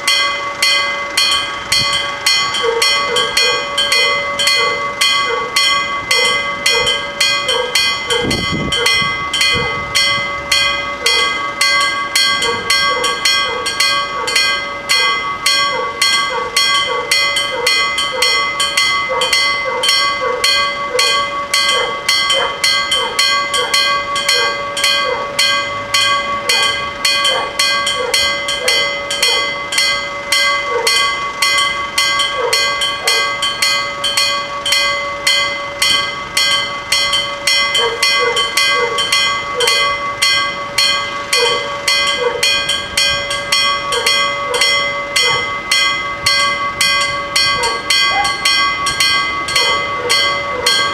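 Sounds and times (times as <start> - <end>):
level crossing bells ringing: 0.0 - 50.9.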